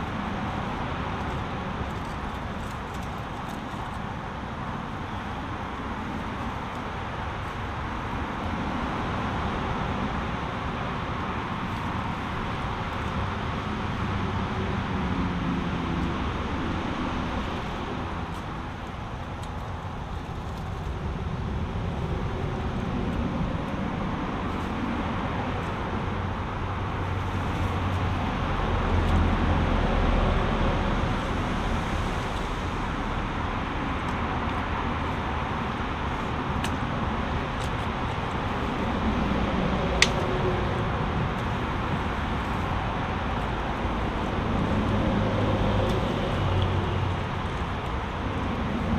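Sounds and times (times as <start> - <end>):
road traffic: 0.0 - 48.9.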